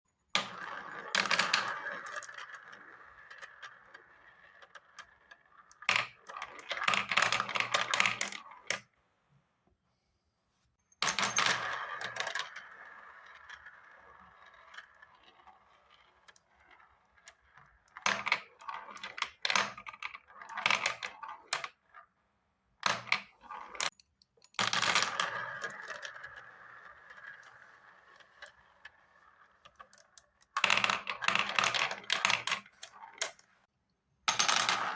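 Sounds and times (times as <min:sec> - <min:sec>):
marbles clicking down a marble run: 0:00.4 - 0:08.8, 0:11.0 - 0:22.1, 0:24.5 - 0:33.5, 0:34.3 - 0:34.9.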